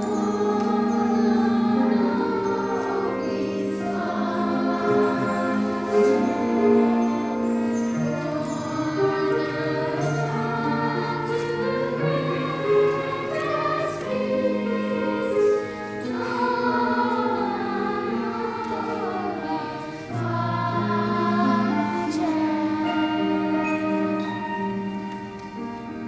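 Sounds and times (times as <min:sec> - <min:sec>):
choir singing: 0:00.0 - 0:26.0
orchestral accompaniment: 0:00.0 - 0:26.0.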